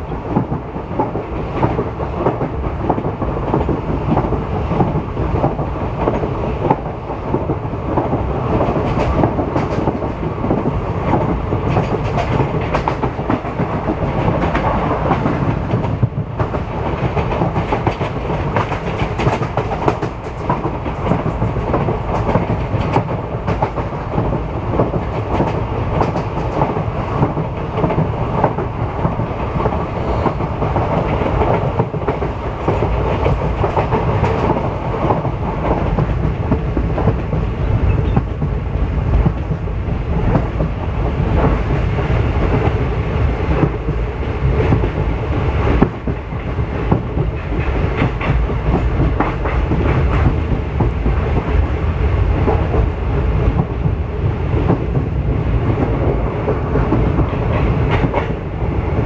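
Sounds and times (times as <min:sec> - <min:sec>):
train rumble: 0:00.0 - 0:59.0
train wheels clattering over joints: 0:00.1 - 0:42.8, 0:43.4 - 0:59.0.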